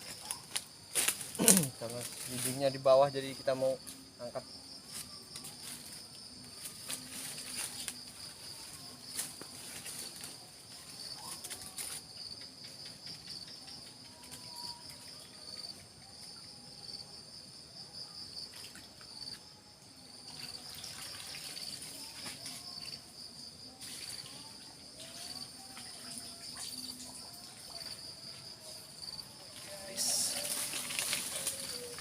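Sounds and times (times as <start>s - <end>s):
insect chorus buzzing: 0.0s - 32.0s.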